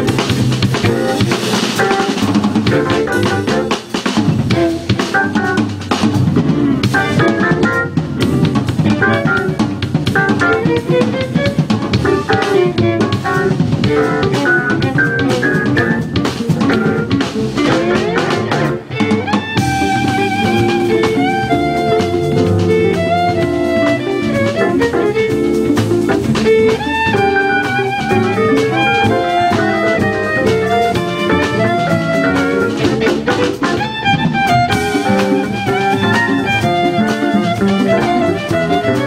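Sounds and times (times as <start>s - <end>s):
drum kit: 0.0s - 39.0s
jazz band playing: 0.0s - 39.0s.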